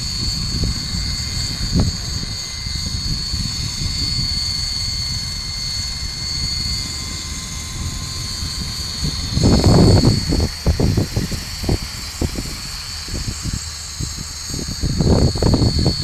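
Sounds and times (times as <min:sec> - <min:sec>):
loud rumbling surge: 0:00.0 - 0:16.0
low rotor rumble: 0:00.0 - 0:16.0
model helicopter high whine: 0:00.0 - 0:16.0.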